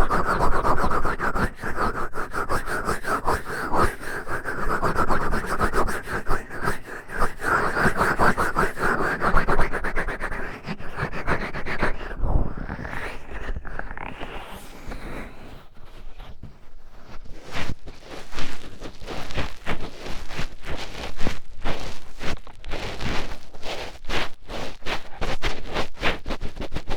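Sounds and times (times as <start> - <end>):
fingertip scratching inside ear: 0.0 - 16.4, 17.1 - 26.9.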